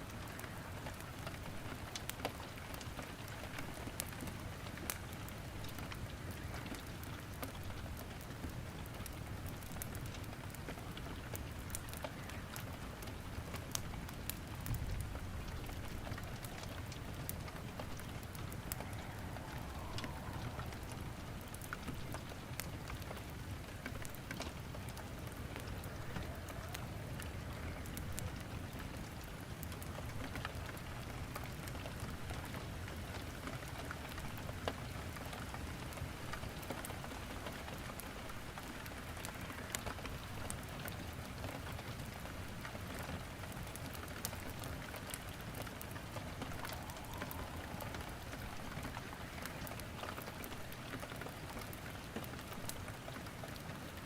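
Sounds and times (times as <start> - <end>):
steady rain falling: 0.0 - 54.0
wood fire crackling in fireplace: 0.0 - 54.0.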